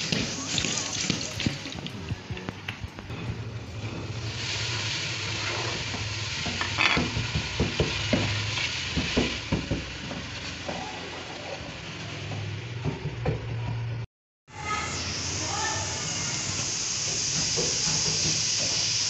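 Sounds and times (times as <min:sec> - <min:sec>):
masala sizzling in a pan: 0:00.0 - 0:13.2, 0:14.5 - 0:19.0.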